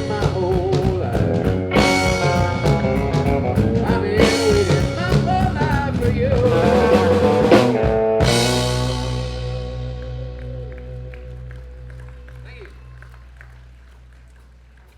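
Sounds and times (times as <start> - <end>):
live country band playing: 0.0 - 14.2.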